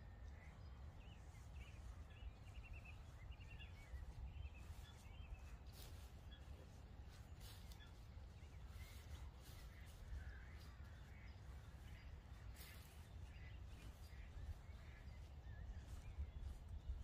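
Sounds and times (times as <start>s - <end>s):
faint bird calls: 0.0s - 17.0s
low wind rumble: 0.0s - 17.0s.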